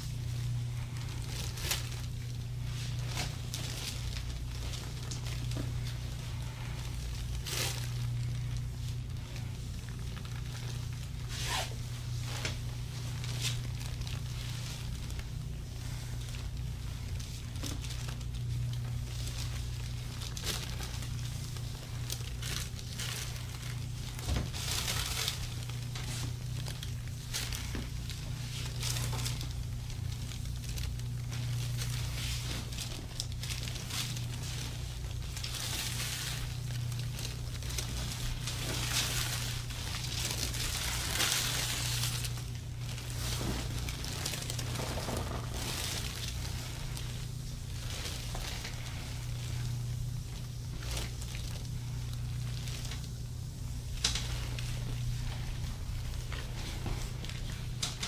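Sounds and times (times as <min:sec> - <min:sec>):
soft rubbing and rustling: 0:00.0 - 0:58.0
steady low hum: 0:00.0 - 0:58.0.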